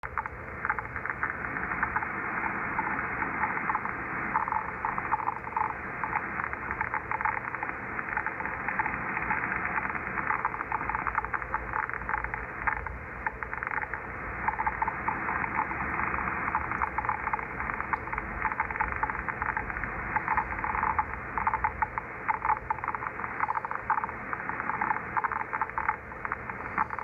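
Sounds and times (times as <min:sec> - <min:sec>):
radio interference clicks and scratches: 0:00.0 - 0:27.0.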